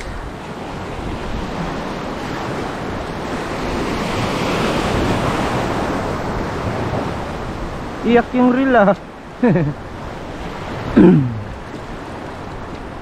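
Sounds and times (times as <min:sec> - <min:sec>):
sea waves breaking: 0:00.0 - 0:13.0
wind on microphone: 0:00.0 - 0:13.0.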